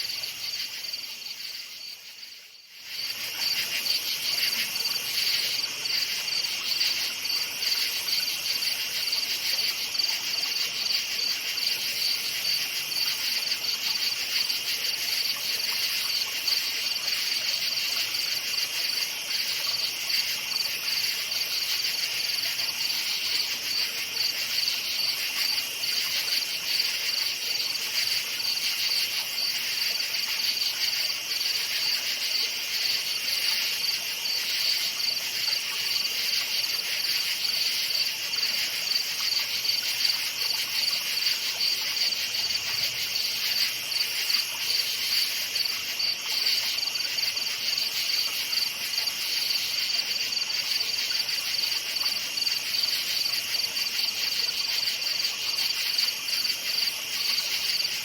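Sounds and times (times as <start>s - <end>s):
lower cricket chorus: 0.0s - 58.0s.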